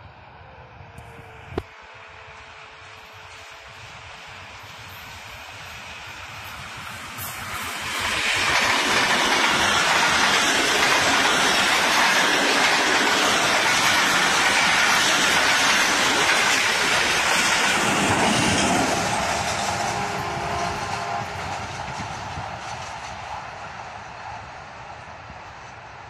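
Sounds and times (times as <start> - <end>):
passenger train passing at speed: 0.0 - 26.0.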